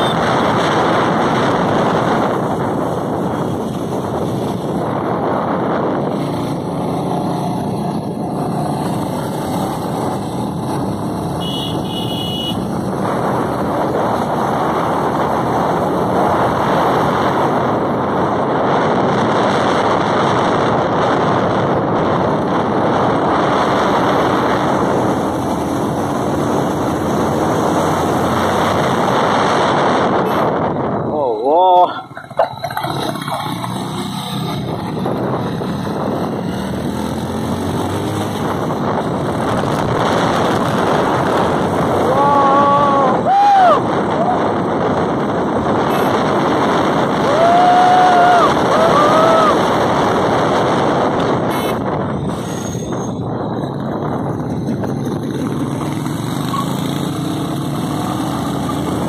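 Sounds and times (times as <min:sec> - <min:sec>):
wind buffeting microphone: 0:00.0 - 0:11.4, 0:12.6 - 0:59.0
motorcycle engine: 0:00.0 - 0:59.0.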